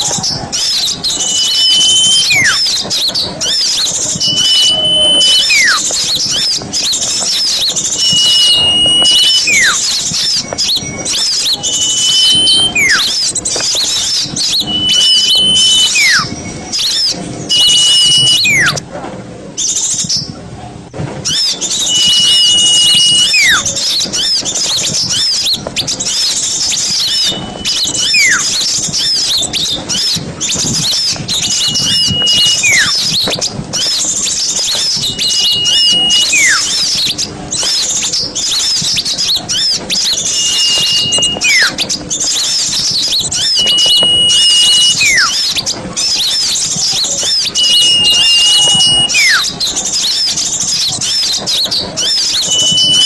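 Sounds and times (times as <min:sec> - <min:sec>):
small birds twittering: 0:00.0 - 0:18.8, 0:19.5 - 0:20.4, 0:21.2 - 0:53.0
swooping whistle: 0:00.0 - 0:18.8, 0:21.2 - 0:53.0.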